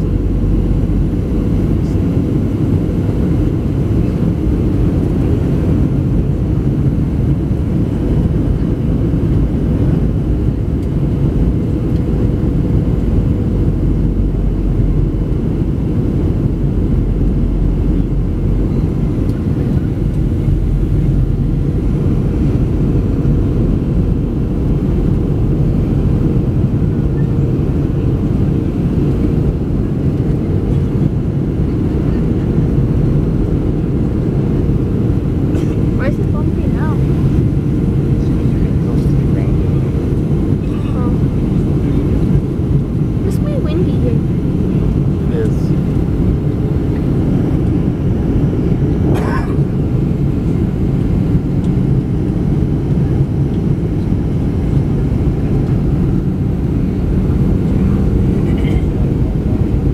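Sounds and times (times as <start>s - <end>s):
aircraft engine and airflow rumble: 0.0s - 59.9s
constant cabin hum: 0.0s - 59.9s.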